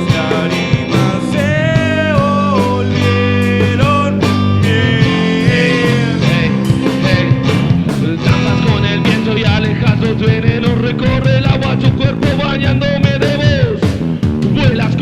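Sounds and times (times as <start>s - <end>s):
bass guitar: 0.0s - 15.0s
drums: 0.0s - 15.0s
electric guitar: 0.0s - 15.0s.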